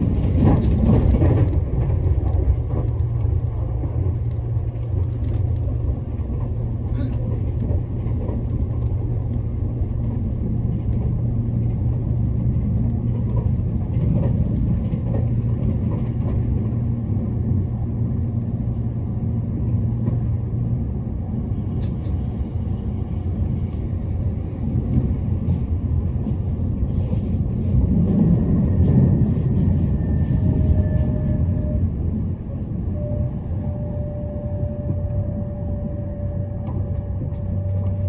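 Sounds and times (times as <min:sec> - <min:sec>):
train low rumble: 0:00.0 - 0:38.0.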